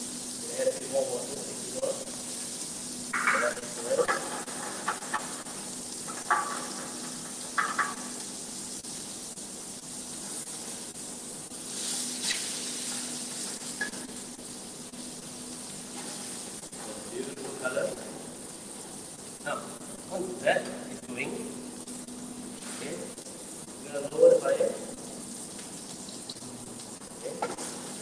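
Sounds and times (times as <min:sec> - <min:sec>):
fish sizzling in a frying pan: 0:00.0 - 0:28.0.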